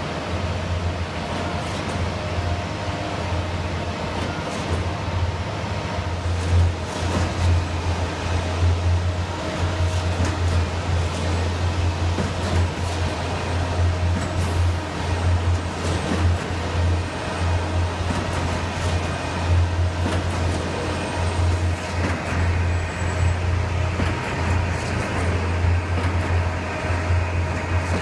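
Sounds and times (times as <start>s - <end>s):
diesel engines running: 0.0s - 28.0s.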